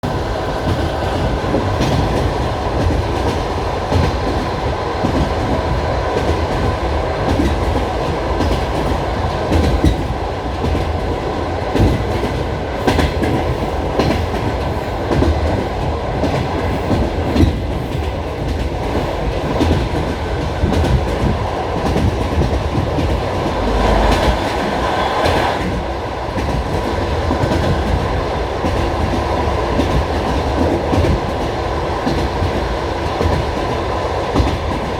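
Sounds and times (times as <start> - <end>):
train carriage rumble: 0.0 - 34.9.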